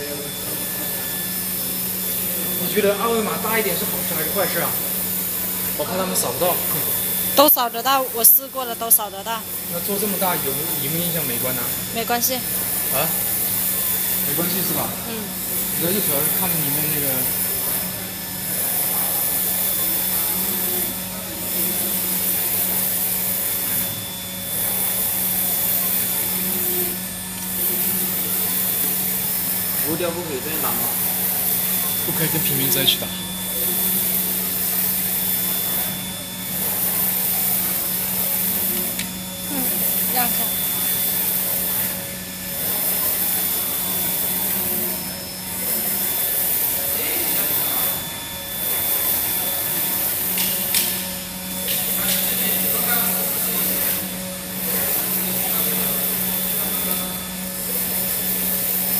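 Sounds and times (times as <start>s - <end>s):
printer mechanical hum: 0.0s - 58.9s.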